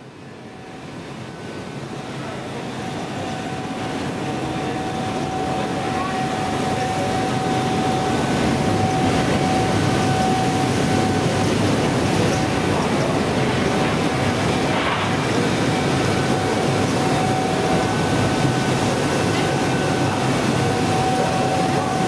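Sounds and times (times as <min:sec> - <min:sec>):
electric arc furnace noise: 0:00.0 - 0:22.0
steady high whine: 0:00.0 - 0:22.0.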